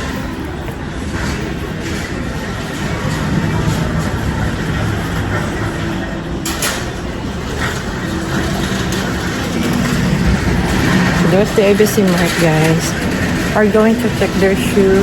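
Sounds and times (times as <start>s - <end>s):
faint indistinct voices: 0.0s - 15.0s
low rumble of shopping centre: 0.0s - 15.0s.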